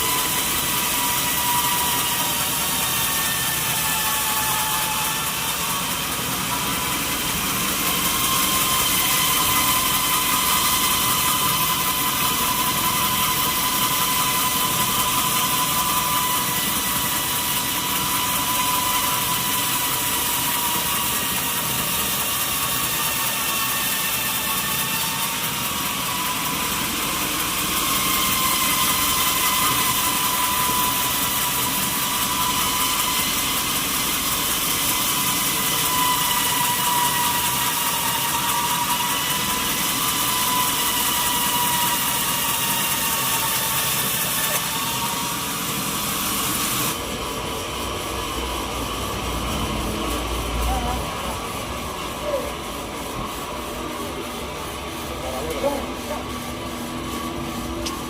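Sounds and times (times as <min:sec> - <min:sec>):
saw whining through log: 0:00.0 - 0:58.0.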